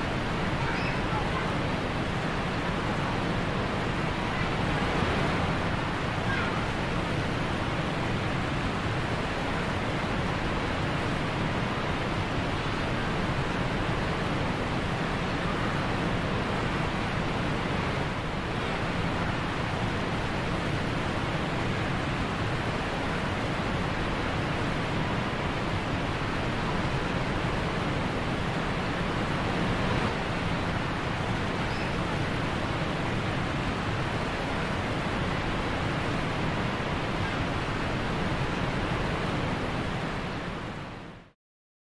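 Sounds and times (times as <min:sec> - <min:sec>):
rush of falling water: 0:00.0 - 0:41.4.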